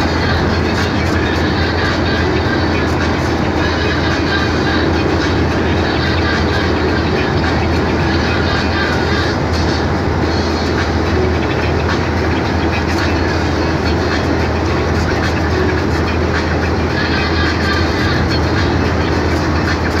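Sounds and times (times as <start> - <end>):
truck engine drone: 0.0 - 20.0
tyre and road noise: 0.0 - 20.0.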